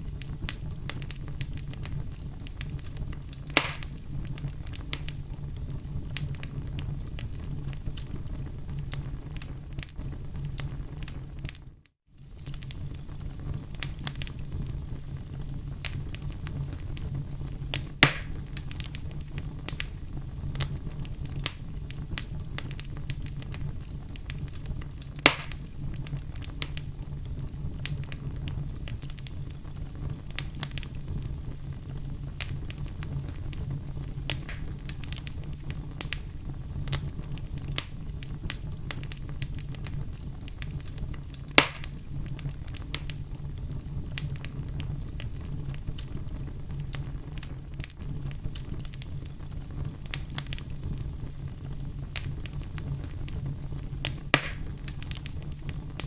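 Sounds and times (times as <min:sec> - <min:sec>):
sharp pops from fire: 0:00.0 - 0:56.0
wood fire crackling: 0:00.0 - 0:56.0.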